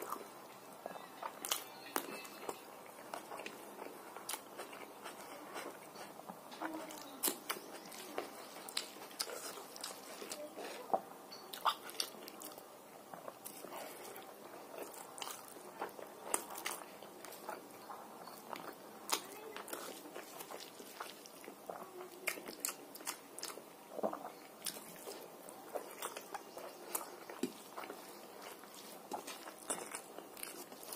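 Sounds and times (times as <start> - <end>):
person chewing food: 0.0 - 30.9.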